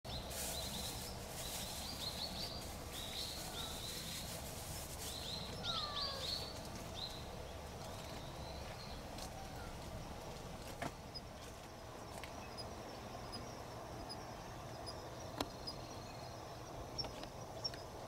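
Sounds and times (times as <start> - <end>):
low background hum: 0.1 - 18.0
small birds chirping: 0.1 - 18.0.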